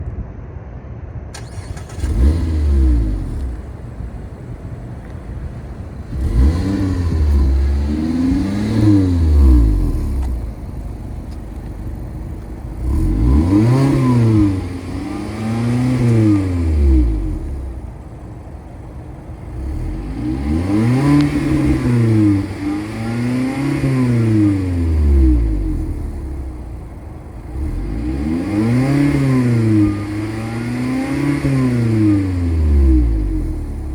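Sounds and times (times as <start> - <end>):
car engine idling: 1.4 - 33.9
car engine revving: 1.4 - 33.9.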